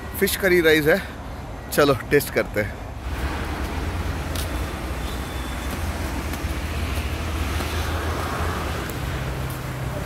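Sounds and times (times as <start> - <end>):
highway traffic rumble: 0.0 - 10.0.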